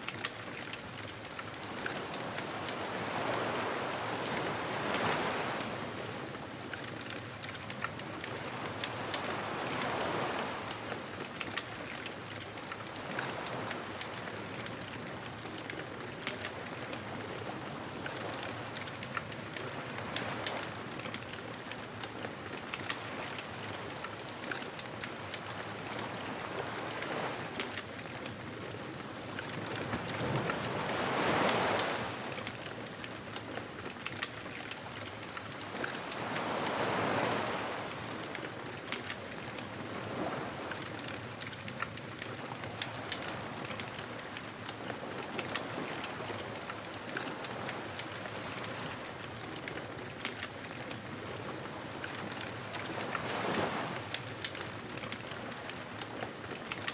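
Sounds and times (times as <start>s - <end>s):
bonfire crackling and popping: 0.0s - 4.0s, 4.6s - 31.9s, 38.2s - 56.9s
ocean waves: 0.0s - 56.9s.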